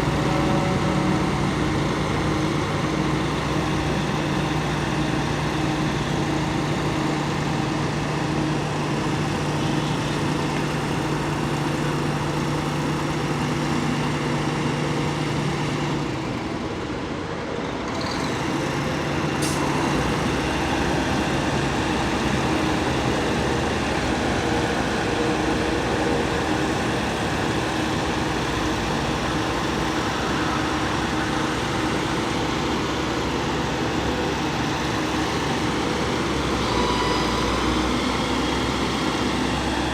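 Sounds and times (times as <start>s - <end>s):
fire truck engine humming: 0.0s - 39.9s.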